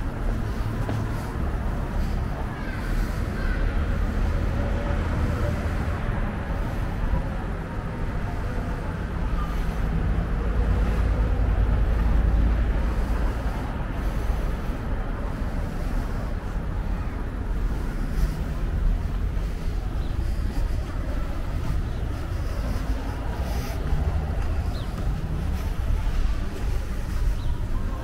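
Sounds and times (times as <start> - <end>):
distant traffic hum: 0.0 - 28.0
steady low rumble: 0.0 - 28.0.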